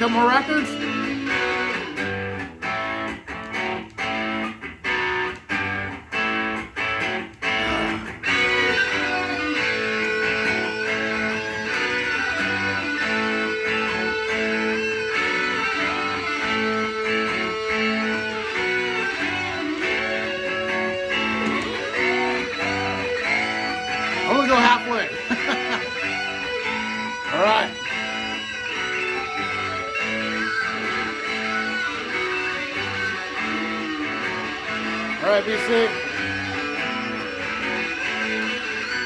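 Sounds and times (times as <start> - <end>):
rock music from vinyl record: 0.0 - 39.0
guitar chord stabs: 7.4 - 39.0.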